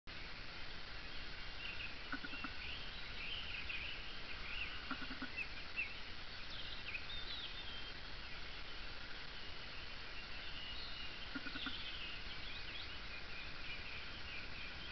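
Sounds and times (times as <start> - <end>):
songbirds chirping: 0.1 - 14.9
steady outdoor hiss: 0.1 - 14.9.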